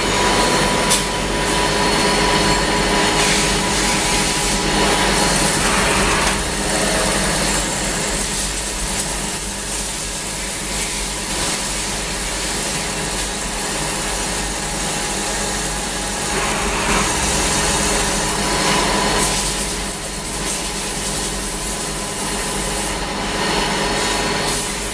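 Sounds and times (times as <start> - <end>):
grinding machine hum and hiss: 0.0 - 24.9.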